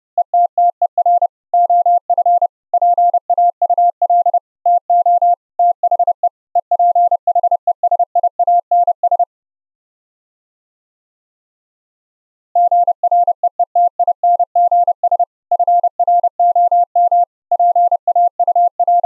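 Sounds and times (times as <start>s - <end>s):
morse code tone: 0.2s - 9.2s, 12.6s - 19.0s.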